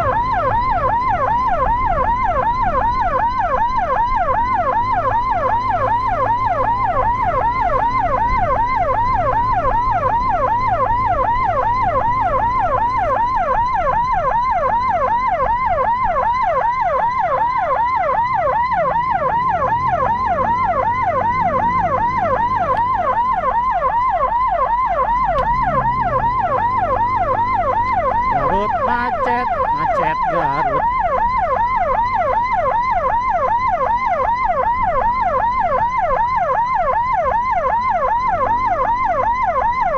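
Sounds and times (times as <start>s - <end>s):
electronic siren yelping: 0.0s - 39.9s
low rumble of traffic engines: 0.0s - 39.9s.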